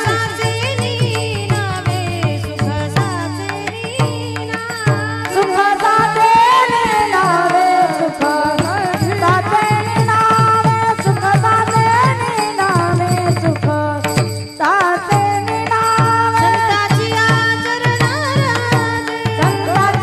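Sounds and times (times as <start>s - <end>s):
tabla strokes: 0.0s - 20.0s
woman singing: 0.0s - 20.0s.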